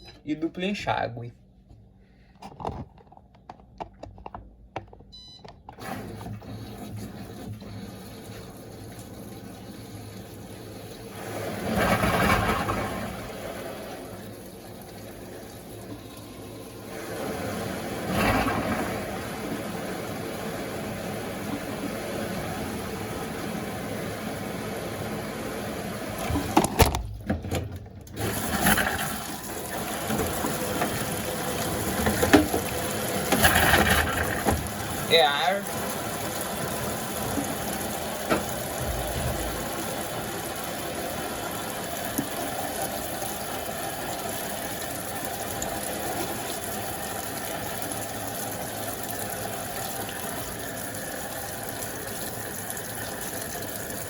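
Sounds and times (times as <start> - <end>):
water rushing into drum: 5.8 - 54.0.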